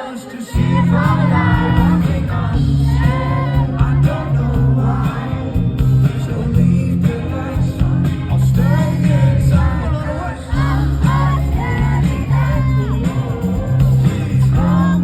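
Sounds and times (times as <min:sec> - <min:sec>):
person singing: 0:00.0 - 0:15.0
live band with heavy bass: 0:00.6 - 0:15.0.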